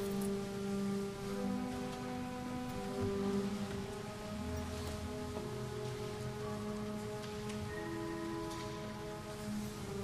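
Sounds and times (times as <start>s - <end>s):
slow church organ chords: 0.0s - 10.0s.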